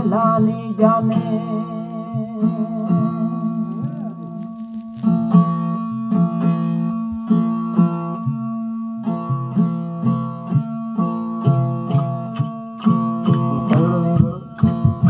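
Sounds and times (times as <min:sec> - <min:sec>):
plucked strings: 0:00.0 - 0:15.0.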